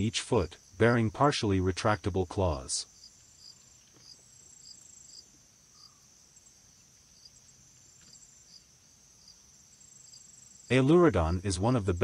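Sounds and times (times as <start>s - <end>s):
insect chirping: 0.0s - 12.0s
insect trilling: 0.0s - 12.0s.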